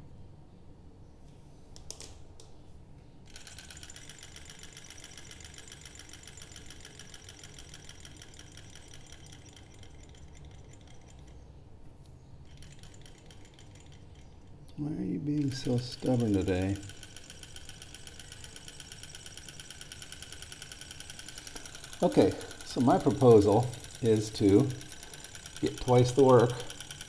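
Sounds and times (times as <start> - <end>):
model engine mechanical clatter: 3.3 - 11.4, 12.5 - 14.5, 15.3 - 27.0.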